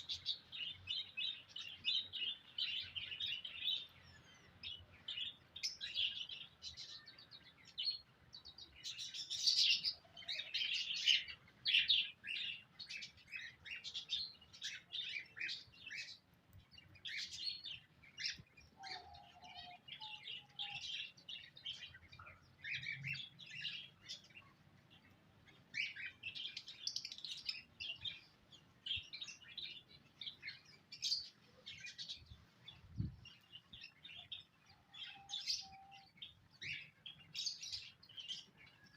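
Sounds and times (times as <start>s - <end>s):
small cage birds chirping: 0.0s - 38.9s.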